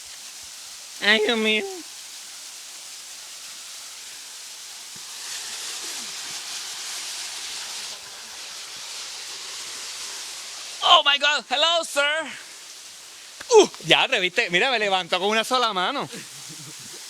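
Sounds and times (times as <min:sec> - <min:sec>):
rushing water of river cascade: 0:00.0 - 0:17.0.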